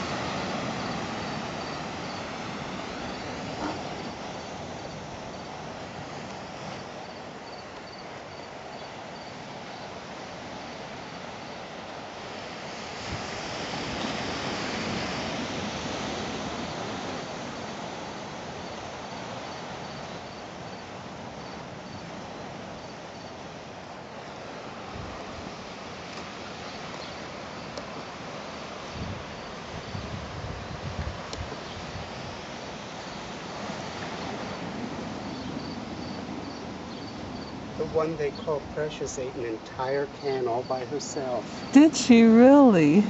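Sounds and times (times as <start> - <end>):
wind: 0.0 - 43.0.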